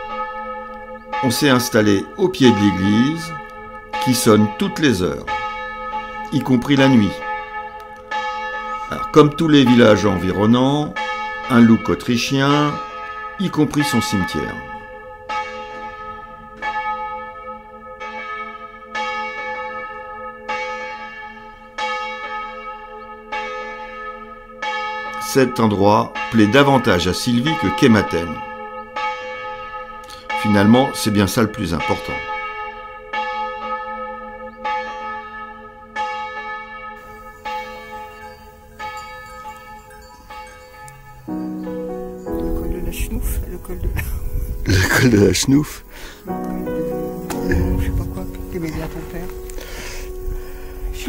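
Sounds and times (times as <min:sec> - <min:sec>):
church bell ringing: 0:00.0 - 0:51.0.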